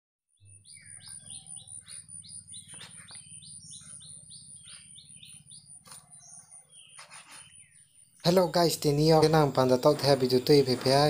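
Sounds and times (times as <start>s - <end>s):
birds chirping: 0.4s - 11.0s.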